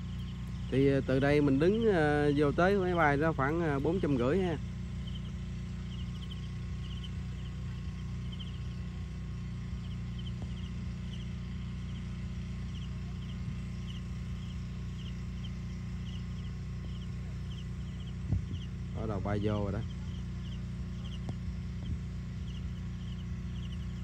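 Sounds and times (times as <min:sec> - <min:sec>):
insect chirping in trills: 0:00.0 - 0:24.0
steady low rumble: 0:00.0 - 0:24.0.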